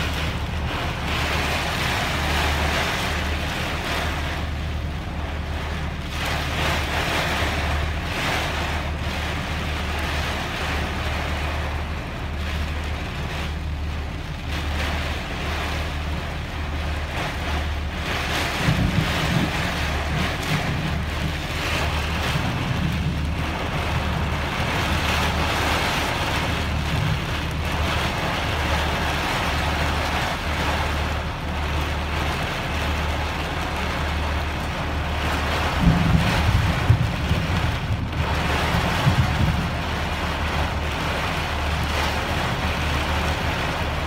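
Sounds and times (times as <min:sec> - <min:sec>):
torrential rain on pavement: 0:00.0 - 0:44.0
wind rumbling on microphone: 0:00.0 - 0:44.0.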